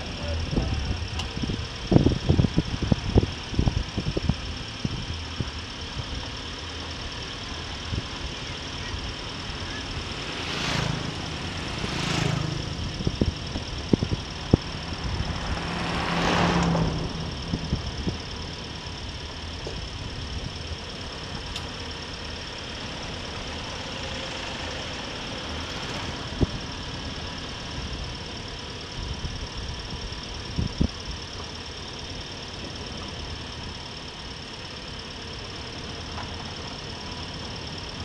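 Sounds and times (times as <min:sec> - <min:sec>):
road noise: 0:00.0 - 0:38.0
vehicle engine running: 0:00.0 - 0:38.0.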